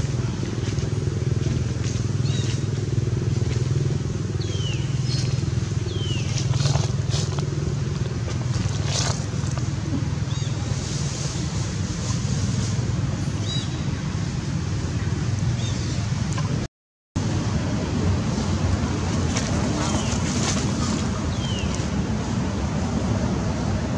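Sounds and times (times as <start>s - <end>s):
rustles in dry leaves: 0.0s - 14.6s, 17.6s - 23.9s
low outdoor rumble: 0.0s - 23.9s.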